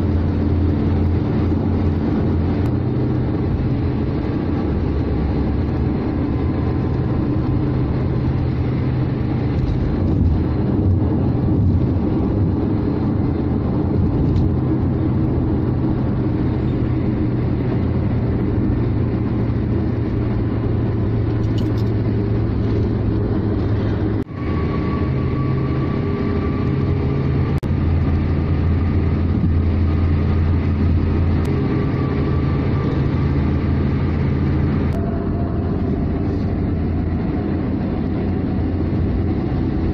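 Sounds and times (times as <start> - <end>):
car engine drone: 0.0 - 39.9
tyre and road noise: 0.0 - 39.9.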